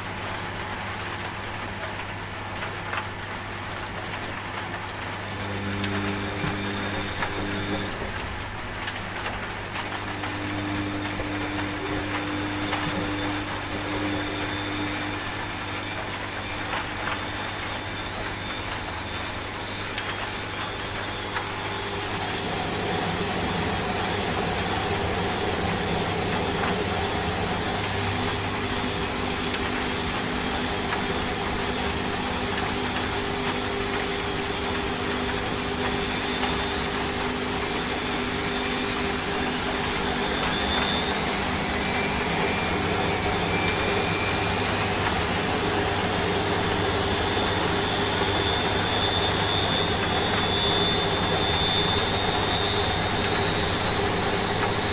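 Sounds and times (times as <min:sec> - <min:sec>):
rain hissing: 0:00.0 - 0:54.9
washing machine motor whine: 0:00.0 - 0:54.9.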